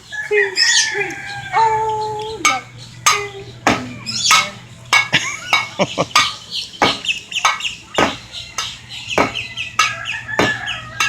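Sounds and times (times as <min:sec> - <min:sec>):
cockatoo chirping and squawking: 0:00.0 - 0:11.0.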